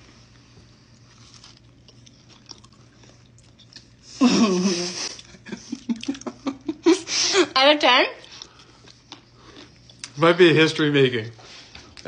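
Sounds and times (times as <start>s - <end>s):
low steady hum: 0.0s - 12.0s
people chewing cookies: 0.0s - 12.0s.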